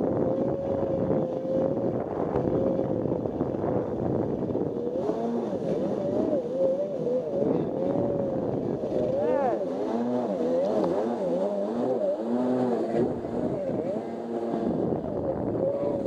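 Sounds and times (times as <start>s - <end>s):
jet ski engine running: 0.0s - 16.0s
wind noise: 0.0s - 16.0s.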